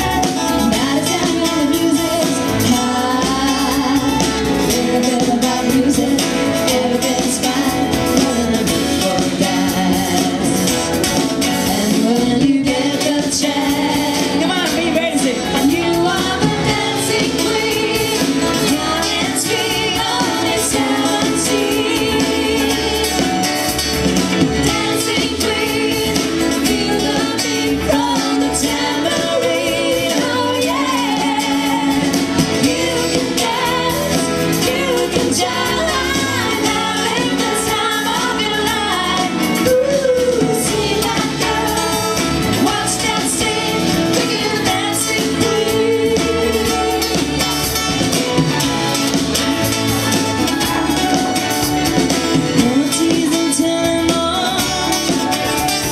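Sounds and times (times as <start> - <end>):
person singing: 0.0 - 47.5, 49.7 - 55.9
live pop band playing: 0.0 - 55.9.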